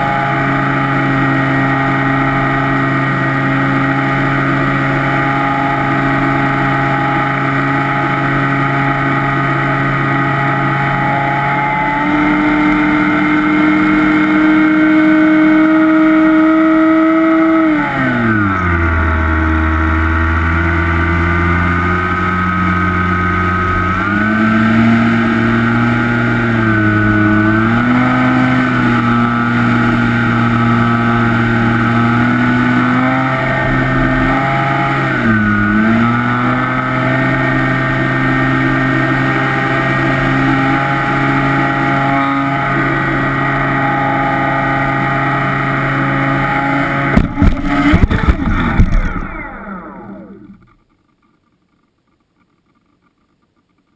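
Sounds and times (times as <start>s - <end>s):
electric motor and propeller whine: 0.0s - 50.9s.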